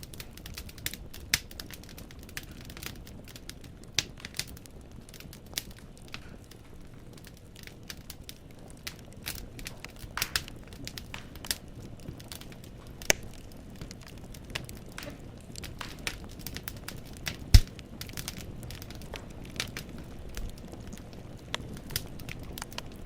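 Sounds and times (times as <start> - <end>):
wood fire crackling in fireplace: 0.0 - 23.0.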